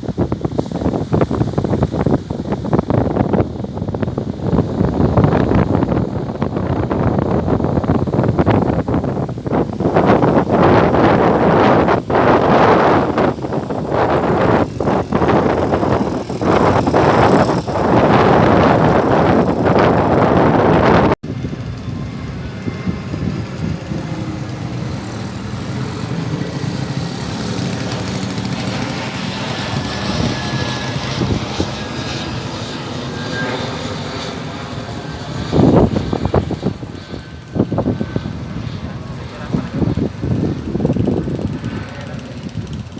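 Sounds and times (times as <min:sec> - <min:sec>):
airplane engine drone: 0:00.0 - 0:42.9
wind buffeting microphone: 0:00.0 - 0:42.9.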